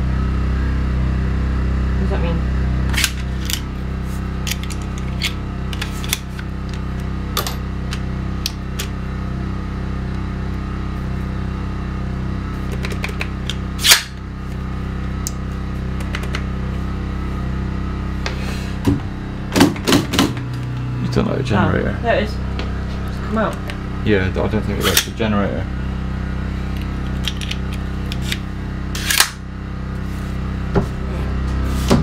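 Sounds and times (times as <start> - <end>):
generator humming: 0.0 - 32.0.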